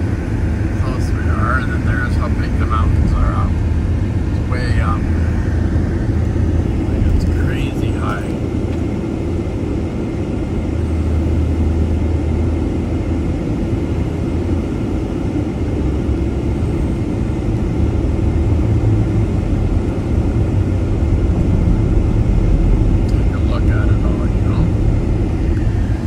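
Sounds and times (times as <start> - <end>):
vehicle road and engine rumble: 0.0 - 26.0.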